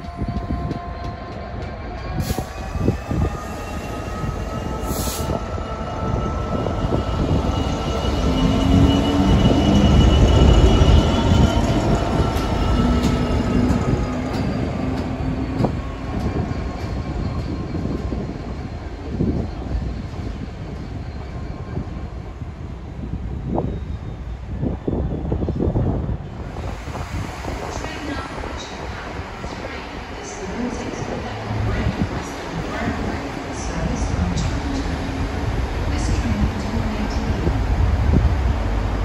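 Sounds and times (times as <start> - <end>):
diesel locomotive engine passing: 0.0 - 39.0.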